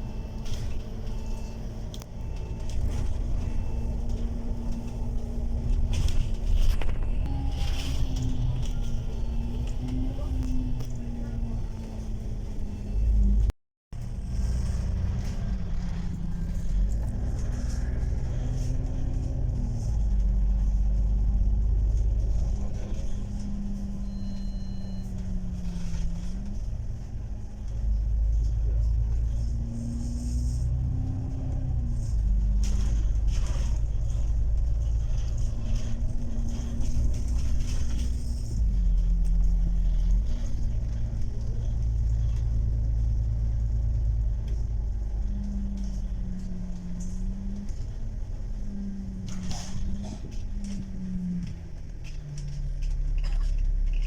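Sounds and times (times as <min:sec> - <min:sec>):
vehicle cabin rumble: 0:00.0 - 0:54.0.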